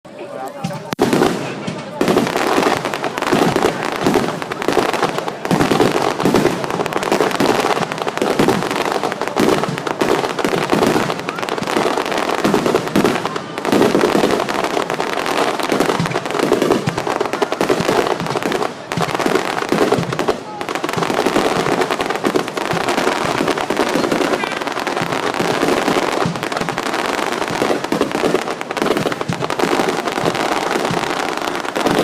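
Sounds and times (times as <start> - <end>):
fireworks bursts and crackling: 0.1 - 32.0.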